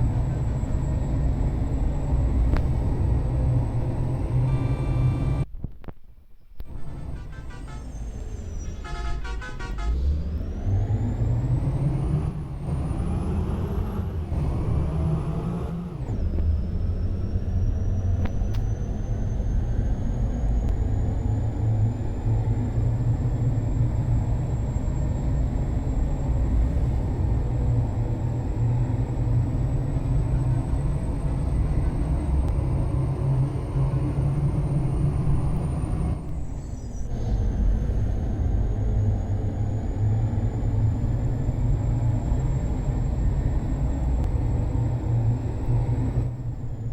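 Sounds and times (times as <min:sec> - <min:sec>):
diesel truck engine accelerating: 0:00.0 - 0:05.5, 0:06.6 - 0:46.9.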